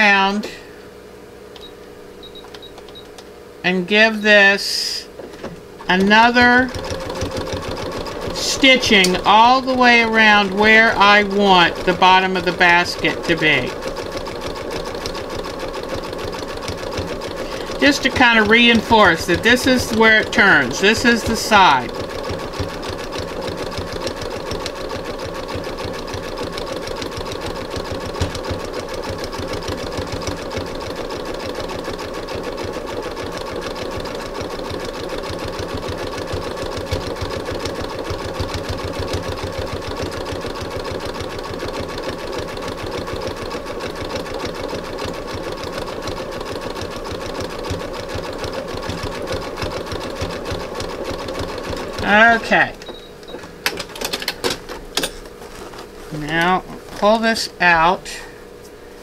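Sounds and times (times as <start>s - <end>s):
sewing machine running: 5.8s - 55.1s.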